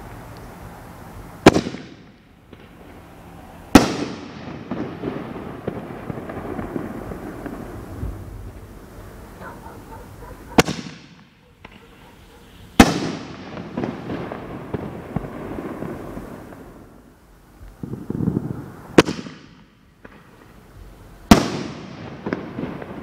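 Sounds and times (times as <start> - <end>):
firework crackling: 0.0 - 23.0.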